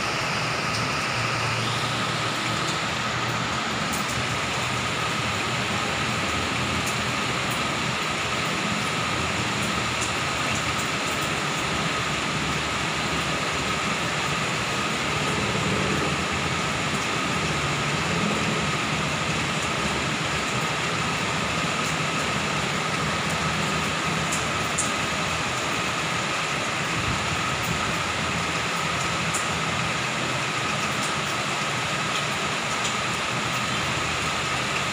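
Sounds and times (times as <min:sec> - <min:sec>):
heavy rain: 0:00.0 - 0:34.9
traffic hum: 0:00.0 - 0:34.9.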